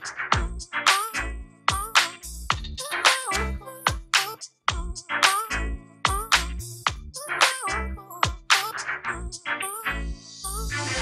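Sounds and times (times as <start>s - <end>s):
electronic music with deep bass: 0.0s - 4.1s, 4.7s - 11.0s.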